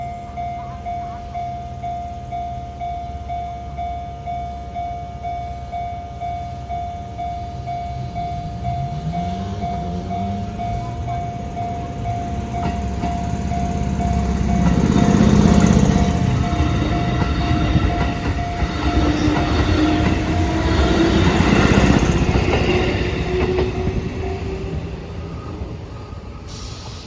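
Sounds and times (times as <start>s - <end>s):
level-crossing alarm bell: 0.0s - 26.6s
electric train whine: 0.0s - 27.0s.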